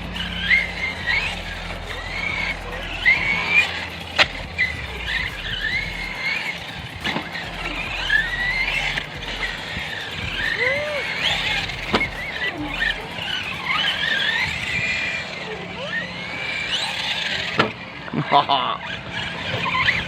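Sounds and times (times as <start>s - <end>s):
rc car motor whine: 0.0s - 20.0s
tyre squeal: 0.0s - 20.0s.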